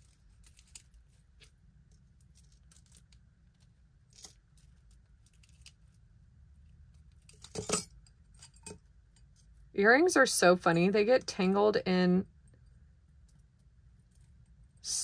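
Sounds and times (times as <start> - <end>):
jewelry clicking and clinking: 0.0 - 15.0.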